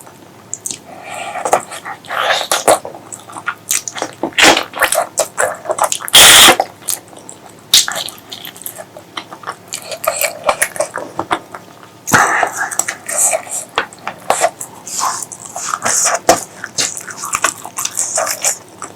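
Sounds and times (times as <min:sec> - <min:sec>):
wet chewing and lip smacking: 0:00.5 - 0:18.9.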